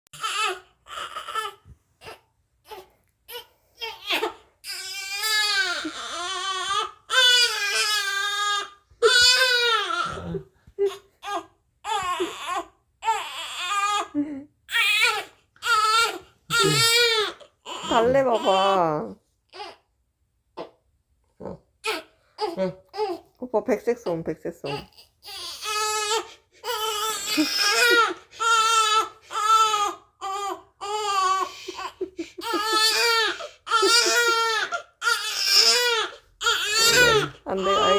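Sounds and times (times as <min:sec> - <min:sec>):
newborn baby crying: 0:00.2 - 0:18.8, 0:19.5 - 0:19.9, 0:21.8 - 0:23.4, 0:24.6 - 0:37.9.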